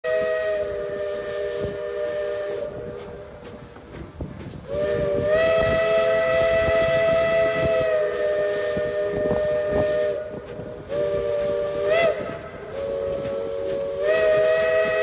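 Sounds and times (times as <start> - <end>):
steam whistle blasts: 0.0 - 3.5, 4.6 - 15.0
train knocks and hiss: 0.1 - 15.0.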